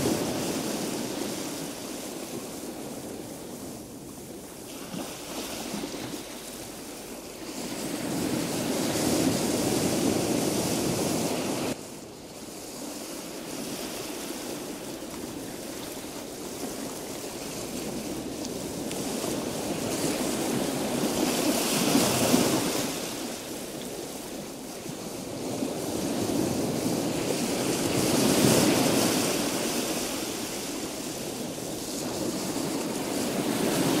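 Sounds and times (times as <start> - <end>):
surf washing onto beach: 0.0 - 34.0.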